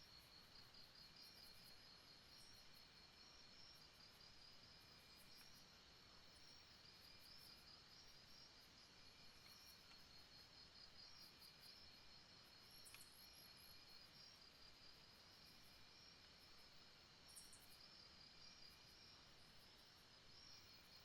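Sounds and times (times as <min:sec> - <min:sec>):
soft hiss: 0:00.0 - 0:21.0.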